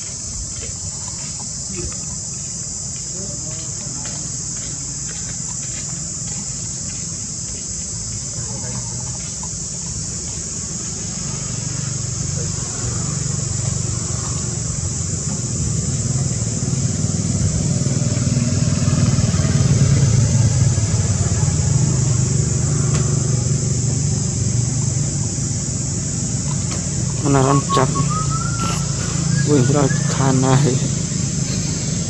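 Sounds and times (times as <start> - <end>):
high-pitched hiss: 0.0 - 32.0
vehicle engine running: 1.5 - 32.0.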